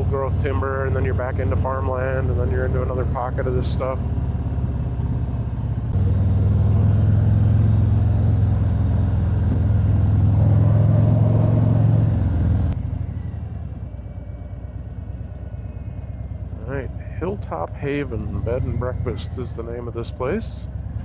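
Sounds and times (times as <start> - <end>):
motorcycle engine cruising: 0.0 - 21.0
road noise: 0.0 - 21.0.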